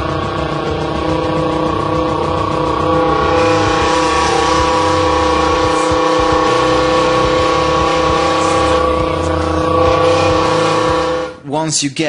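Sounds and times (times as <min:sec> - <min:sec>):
mouth-made engine imitation: 0:00.0 - 0:11.4.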